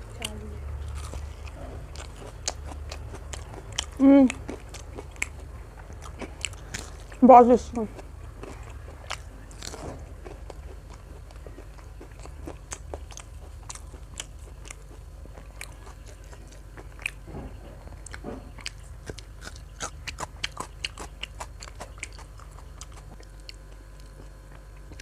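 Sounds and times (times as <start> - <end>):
person chewing crunchy food: 0.0 - 7.2, 7.9 - 25.0.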